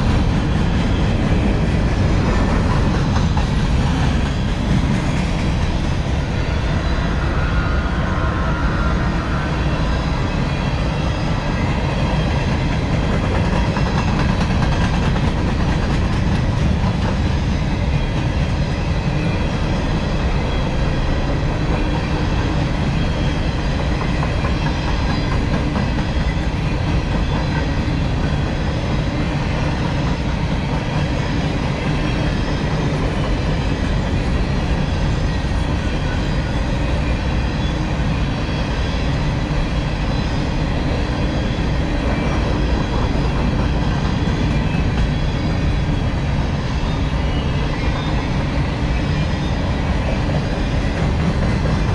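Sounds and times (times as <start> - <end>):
train wheels rolling on rails: 0.0 - 51.9.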